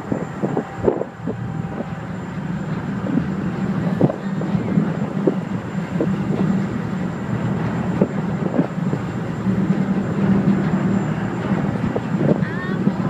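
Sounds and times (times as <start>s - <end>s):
ferry engine droning: 0.0s - 13.0s.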